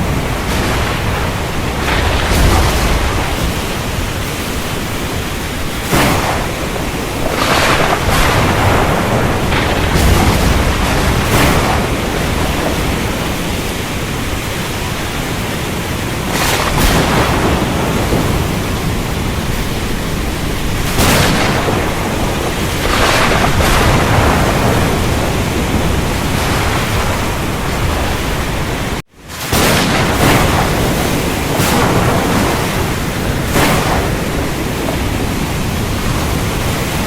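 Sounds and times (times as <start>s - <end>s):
deep thunder rumble: 0.0s - 37.0s
heavy rain: 0.0s - 37.0s
thunder surges: 0.0s - 37.0s.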